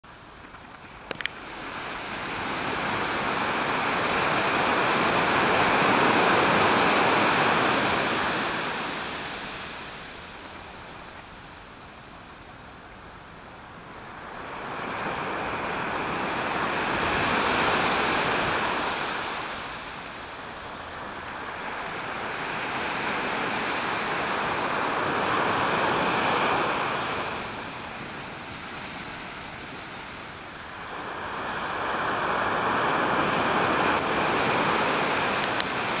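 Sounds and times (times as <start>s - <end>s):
small waves breaking on sand: 0.9s - 36.0s.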